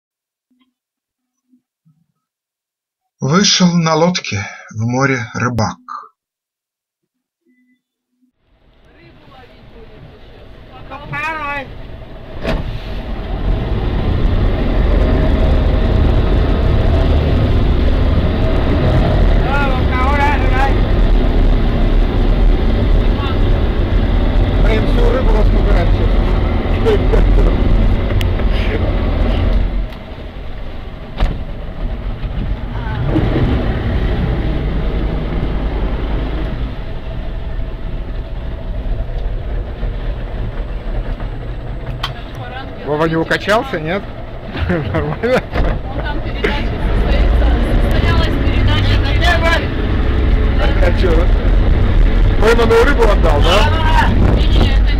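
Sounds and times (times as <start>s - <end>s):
constant rushing noise: 8.6s - 54.9s
motorboat engine rumbling: 8.6s - 54.9s.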